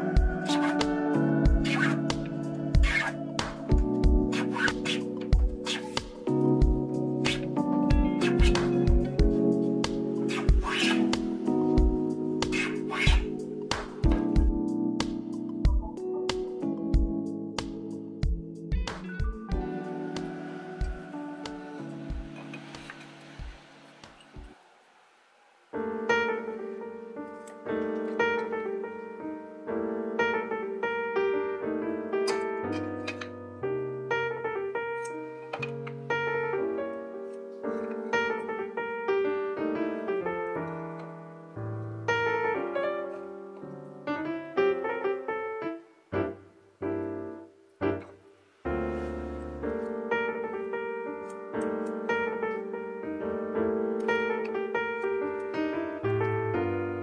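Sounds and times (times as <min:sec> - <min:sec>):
gentle piano music: 0:00.0 - 0:24.6, 0:25.7 - 0:57.0.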